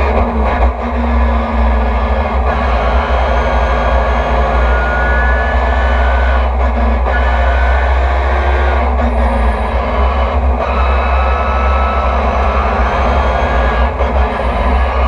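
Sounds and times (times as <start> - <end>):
race car engine droning: 0.0 - 15.0.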